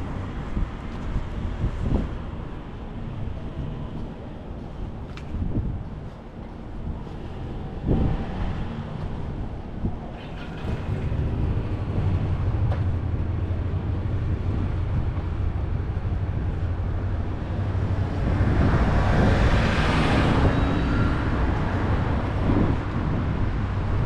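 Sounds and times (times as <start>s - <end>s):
city traffic rumbling: 0.0s - 24.0s.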